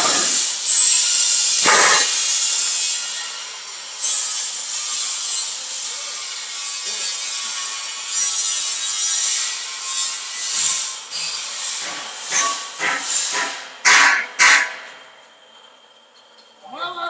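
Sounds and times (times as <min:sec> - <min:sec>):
rasping hiss of metal grinding: 0:00.0 - 0:15.9.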